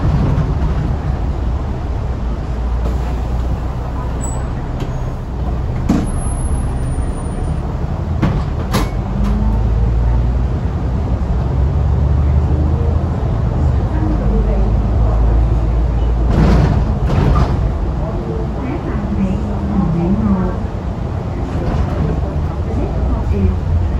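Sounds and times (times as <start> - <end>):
bus engine running: 0.0 - 23.9.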